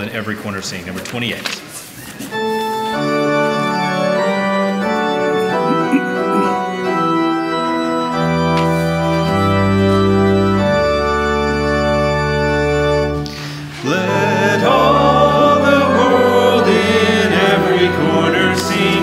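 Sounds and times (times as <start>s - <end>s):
church organ sustained chords: 2.3s - 19.0s
organ pedal bass notes: 2.3s - 19.0s.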